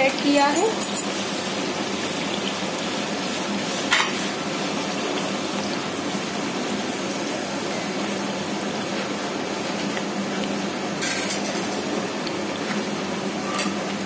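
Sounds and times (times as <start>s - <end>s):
sauce sizzling in hot oil: 0.0s - 14.0s.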